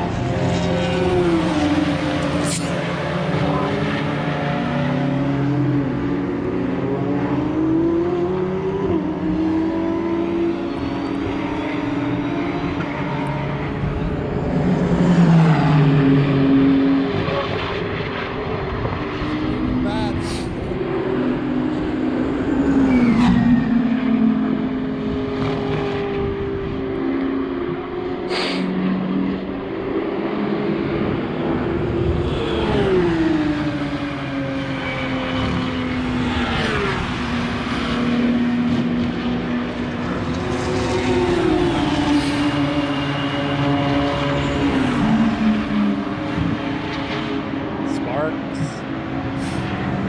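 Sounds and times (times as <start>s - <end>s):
race car engines: 0.0s - 50.0s.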